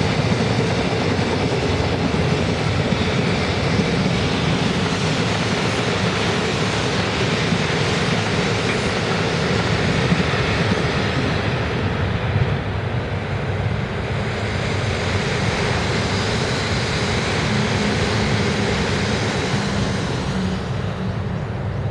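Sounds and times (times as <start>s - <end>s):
trains passing on rails: 0.0s - 21.9s.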